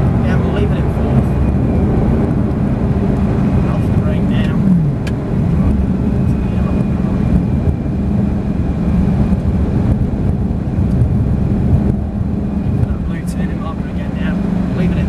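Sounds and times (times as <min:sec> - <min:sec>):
car engine at steady revs: 0:00.0 - 0:15.0
road rumble: 0:00.0 - 0:15.0.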